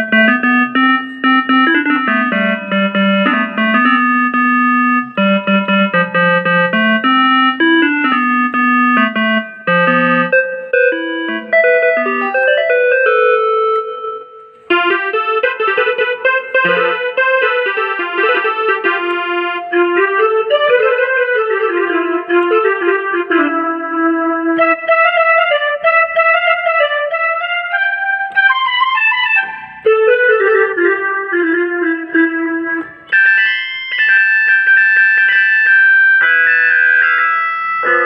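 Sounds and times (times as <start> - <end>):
electronic keyboard melody: 0.0 - 38.0.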